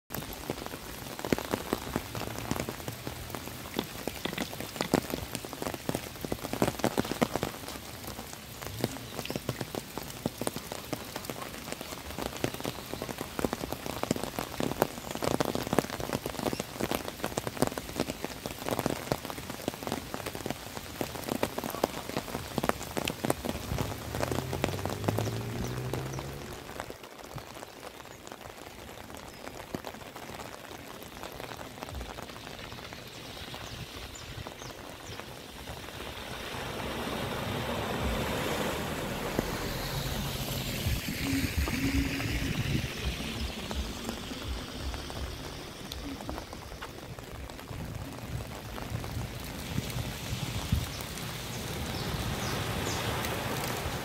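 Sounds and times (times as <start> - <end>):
heavy rain on water: 0.0 - 54.0.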